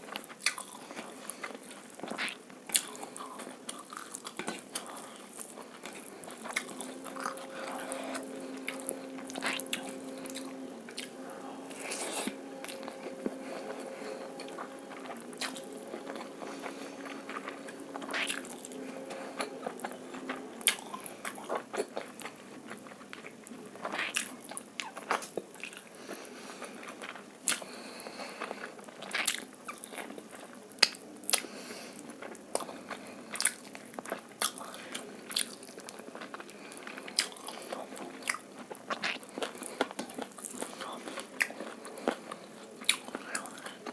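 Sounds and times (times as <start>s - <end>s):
close chewing and biting: 0.0s - 43.9s
steady low hum: 0.0s - 43.9s.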